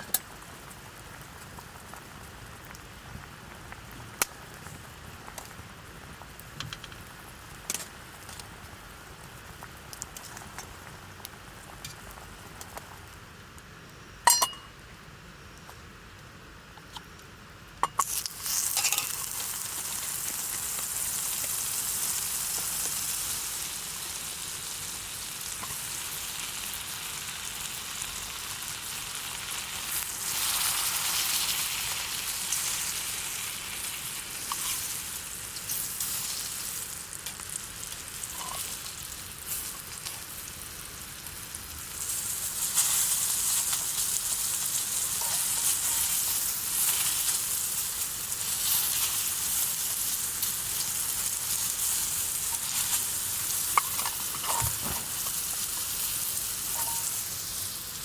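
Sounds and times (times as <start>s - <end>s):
food sizzling in a pan: 0.0s - 13.6s, 17.8s - 58.0s.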